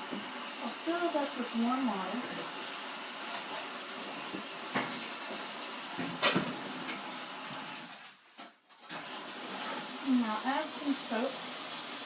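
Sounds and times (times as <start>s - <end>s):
washing machine filling with water: 0.0s - 8.1s, 8.8s - 12.0s.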